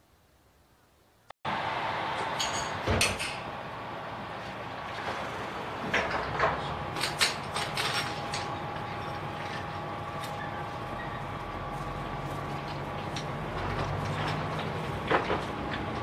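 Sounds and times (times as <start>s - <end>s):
railcar diesel engines idling: 1.5s - 16.0s.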